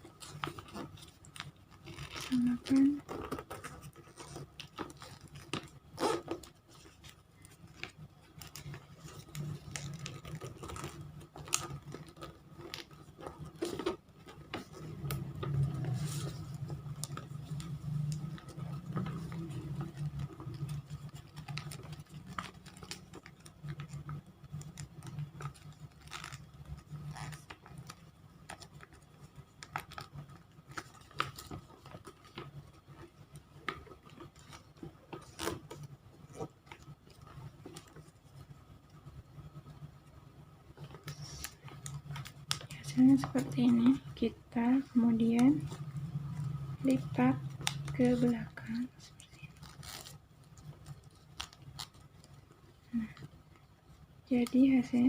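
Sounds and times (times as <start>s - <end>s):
paper being folded and creased: 0.0s - 40.0s, 40.7s - 53.7s.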